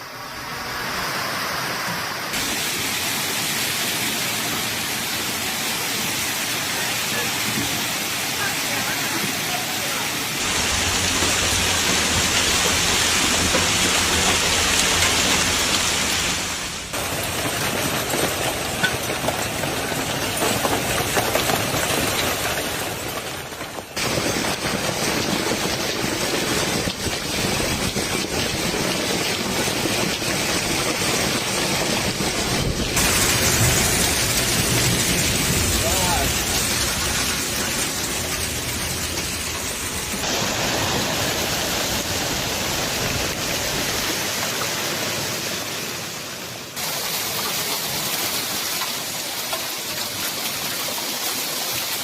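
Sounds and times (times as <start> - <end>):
heavy rain hissing: 0.0 - 52.0
sharp rain taps: 2.3 - 52.0.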